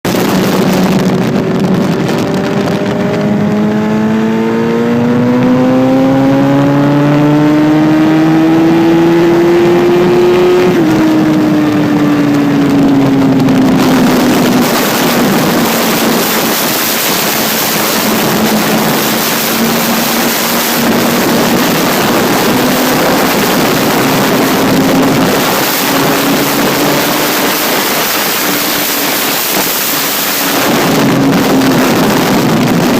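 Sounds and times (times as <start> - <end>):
loud wind noise: 0.0 - 32.9
vehicle engine accelerating: 0.1 - 32.9.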